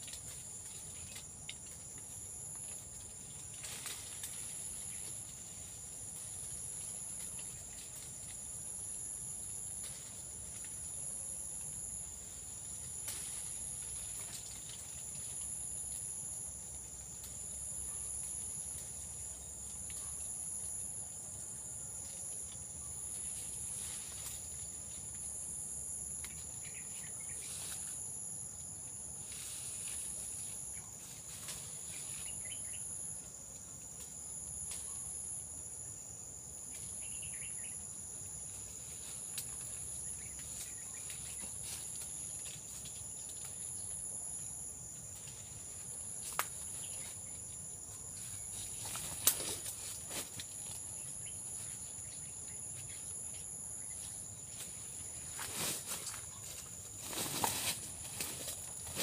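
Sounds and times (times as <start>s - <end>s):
high-pitched insect chorus: 0.0s - 59.0s
leaves and twigs rustling: 0.0s - 59.0s.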